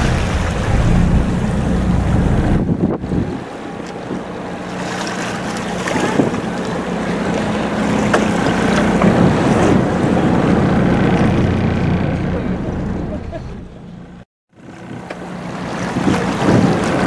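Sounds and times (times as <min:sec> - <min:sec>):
wind on microphone: 0:00.0 - 0:04.3, 0:05.7 - 0:13.4, 0:14.7 - 0:17.0
sea wash: 0:00.0 - 0:13.9, 0:14.5 - 0:17.0
boat engine humming: 0:00.0 - 0:17.0.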